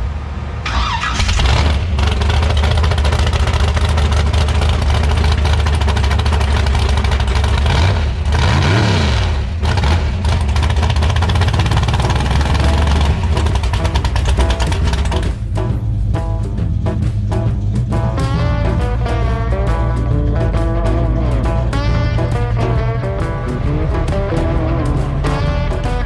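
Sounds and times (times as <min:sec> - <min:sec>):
engine revving: 0:00.7 - 0:26.0
car engine idling: 0:00.8 - 0:08.8, 0:09.4 - 0:26.0.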